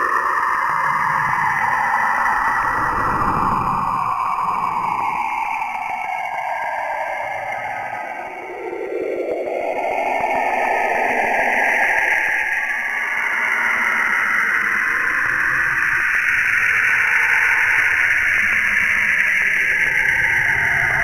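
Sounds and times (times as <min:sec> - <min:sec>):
eerie radio-like hiss: 0:00.0 - 0:21.0.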